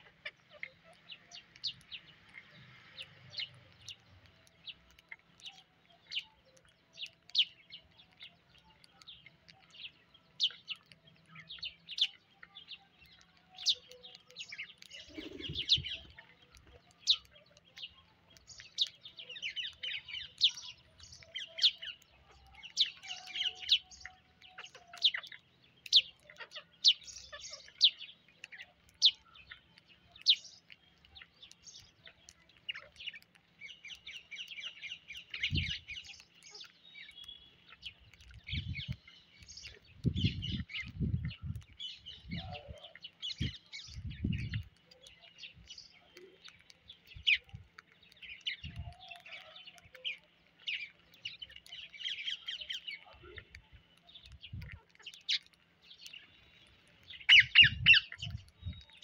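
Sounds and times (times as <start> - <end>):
birds chirping and squawking: 0.0 - 59.0.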